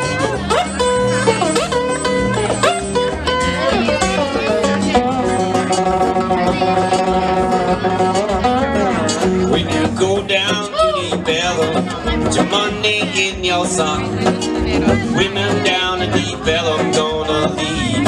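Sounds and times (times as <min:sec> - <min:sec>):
acoustic guitar strumming: 0:00.0 - 0:18.0
bending sliding guitar lead: 0:00.0 - 0:18.0.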